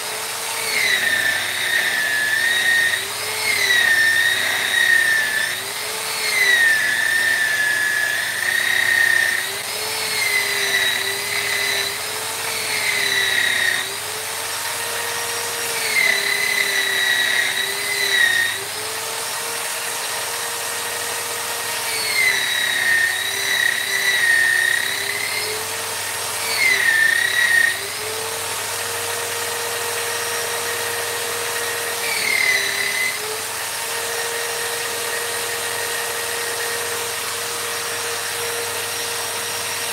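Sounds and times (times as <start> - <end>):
rotary power tool whining: 0.0 - 39.9.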